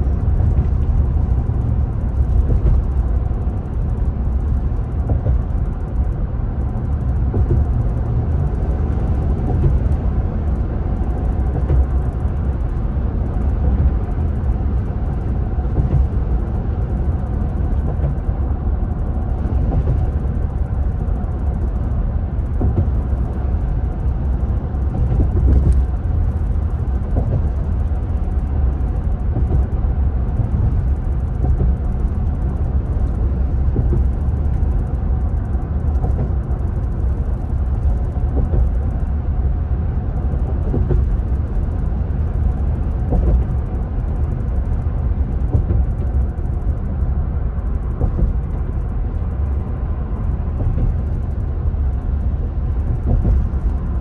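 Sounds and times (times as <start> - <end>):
car driving at highway speed: 0.0 - 54.0.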